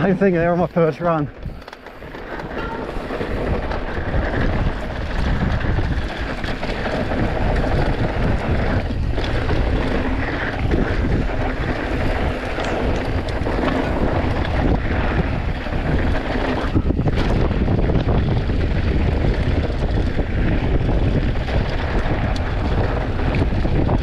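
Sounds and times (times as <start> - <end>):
bike clicks and rattles: 0.0 - 24.0
tyres rumbling on dirt: 0.0 - 24.0
wind buffeting microphone: 0.0 - 24.0.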